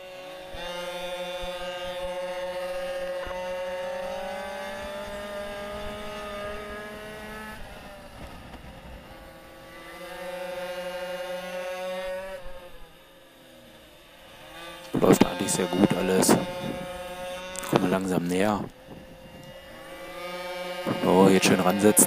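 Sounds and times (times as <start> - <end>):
two-stroke minibike engine revving: 0.0 - 22.0.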